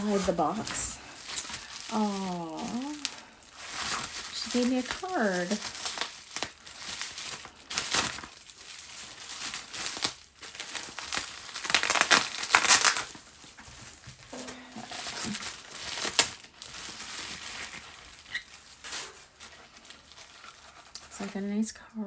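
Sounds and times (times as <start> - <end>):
paper and packaging crinkling: 0.0 - 21.7.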